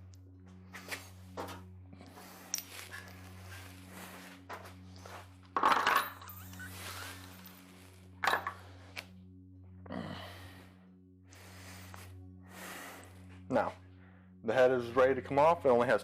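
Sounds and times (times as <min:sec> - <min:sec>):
steady low drone: 0:00.0 - 0:16.0.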